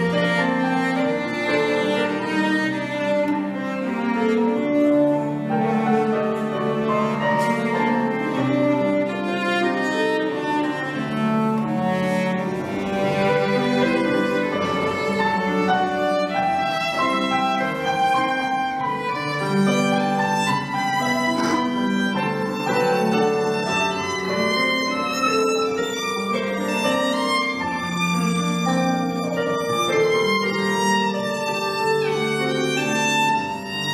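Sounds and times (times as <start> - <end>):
cello: 0.0 - 33.9
violin: 0.0 - 33.9.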